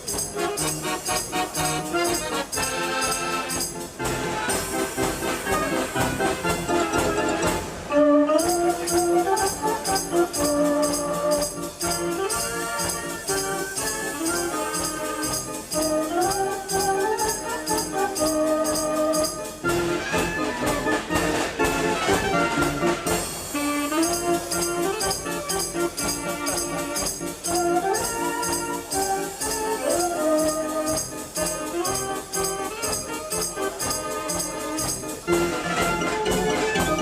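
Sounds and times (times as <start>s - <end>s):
fairground organ playing: 0.0s - 37.0s.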